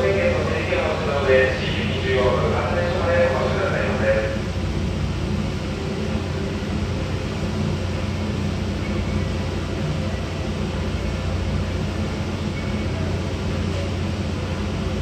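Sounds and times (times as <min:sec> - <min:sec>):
ship engines droning: 0:00.0 - 0:15.0
wind and water hiss: 0:00.0 - 0:15.0.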